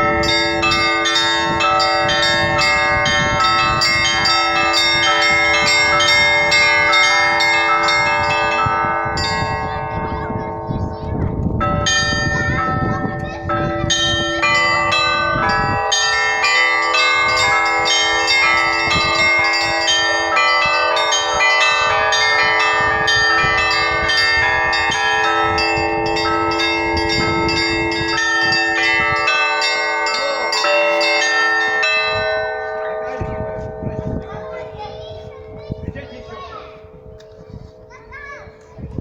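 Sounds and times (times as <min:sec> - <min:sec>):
church bells ringing: 0:00.0 - 0:39.0.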